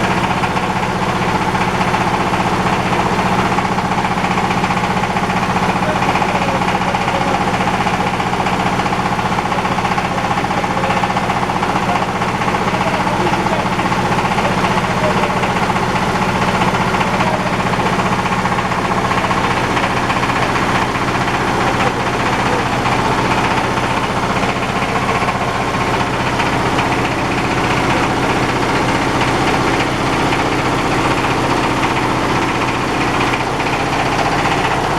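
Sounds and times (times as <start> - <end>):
diesel engine running machine: 0.0 - 34.9.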